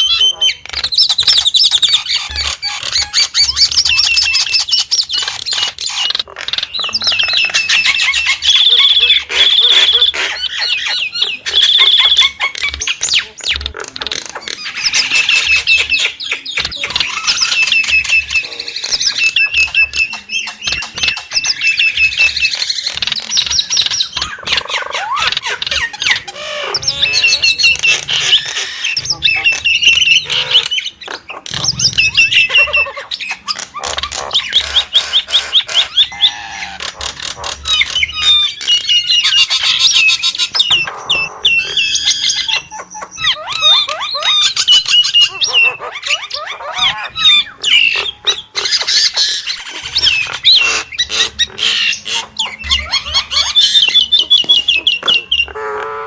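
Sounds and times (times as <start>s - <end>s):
myna chattering and whistling: 0.0s - 56.0s.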